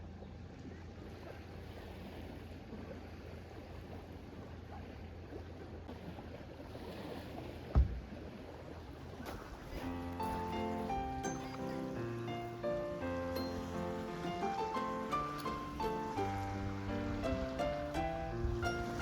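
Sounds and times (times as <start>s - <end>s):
water lapping: 0.0s - 19.0s.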